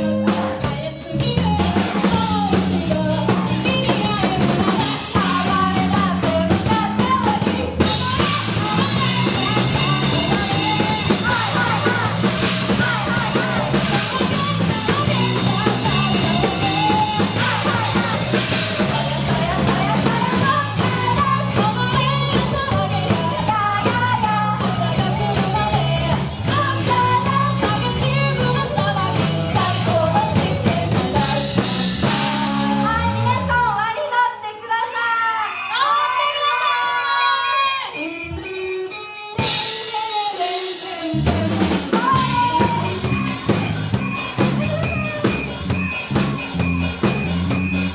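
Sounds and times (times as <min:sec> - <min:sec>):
rock music with drums and singing: 0:00.0 - 0:47.9.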